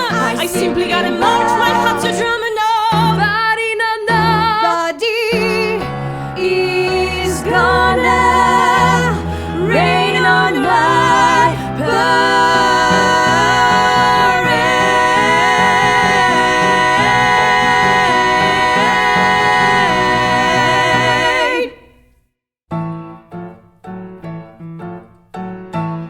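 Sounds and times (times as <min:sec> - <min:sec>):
women singing in harmony: 0:00.0 - 0:22.0.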